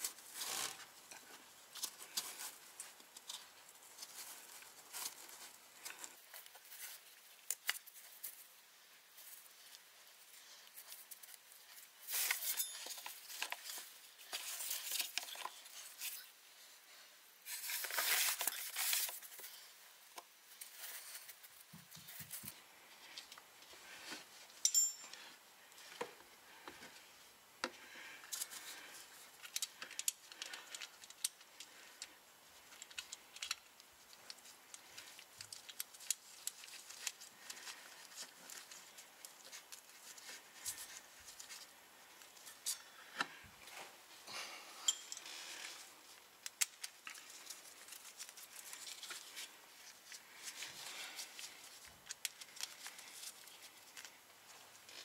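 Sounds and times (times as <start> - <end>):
gloves rustling: 0.0 - 55.0.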